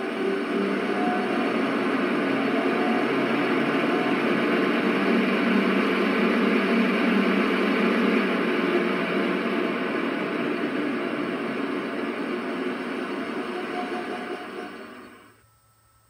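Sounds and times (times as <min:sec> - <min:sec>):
model train hissing whirring sound: 0:00.0 - 0:16.0.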